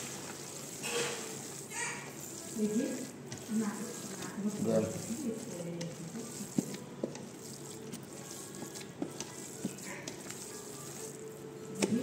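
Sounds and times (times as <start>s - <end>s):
hand rubbing crumbs in steel bowl: 0.0s - 12.0s.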